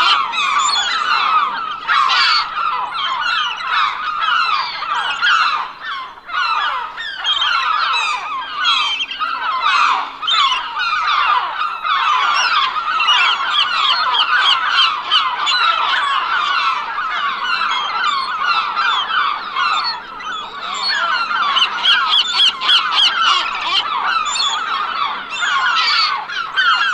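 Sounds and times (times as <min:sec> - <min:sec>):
flock of gulls calling: 0:00.0 - 0:26.9.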